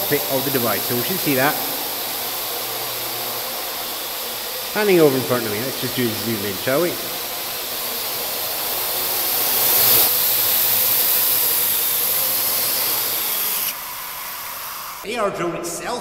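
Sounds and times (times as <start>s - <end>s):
drone rotors whirring: 0.0s - 15.0s.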